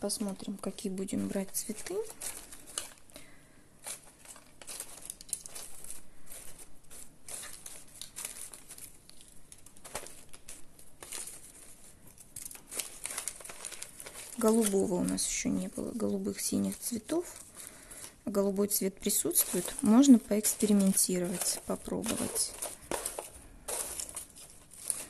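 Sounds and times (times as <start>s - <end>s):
paper and packaging crinkling: 0.0s - 25.0s.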